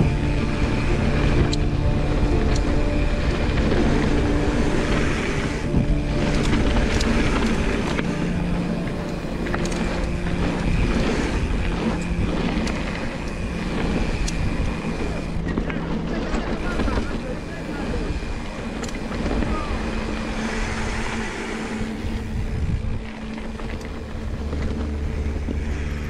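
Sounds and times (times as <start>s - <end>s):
bike rattling over bumps: 0.0s - 26.0s
bike tyre rumble: 0.0s - 26.0s
steady buzzing hum: 0.0s - 26.0s
wind buffeting microphone: 0.0s - 26.0s.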